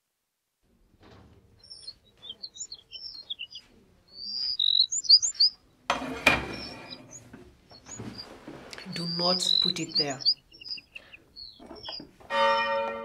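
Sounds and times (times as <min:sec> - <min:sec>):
small birds chirping: 0:01.4 - 0:12.2.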